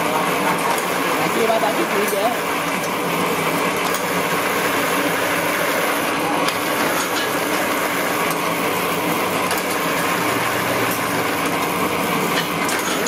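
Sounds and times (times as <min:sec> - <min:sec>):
tapping machine running: 0:00.0 - 0:13.0.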